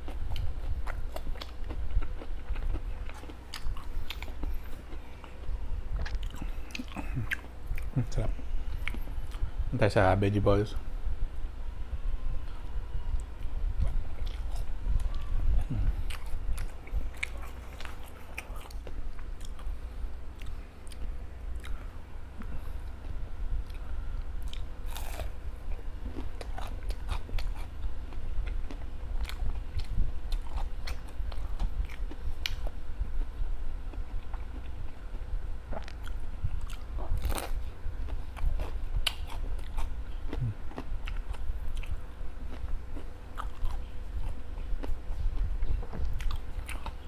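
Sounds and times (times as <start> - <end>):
person chewing food: 0.0 - 9.4, 12.4 - 47.0.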